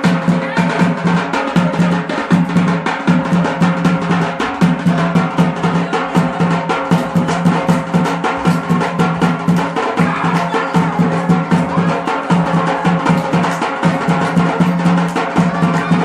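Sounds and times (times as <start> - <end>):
hand drum dance rhythm: 0.0 - 16.0.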